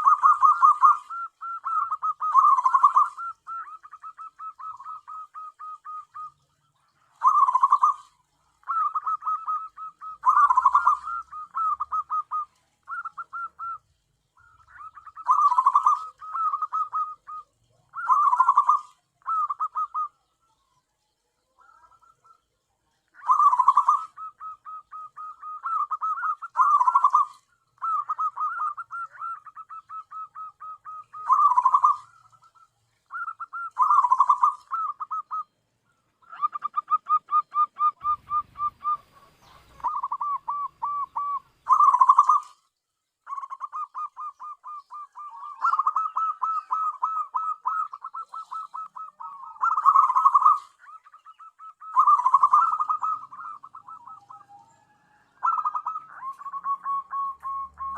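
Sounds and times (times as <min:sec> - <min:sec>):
dove cooing: 0:00.0 - 0:20.7, 0:21.4 - 0:57.9.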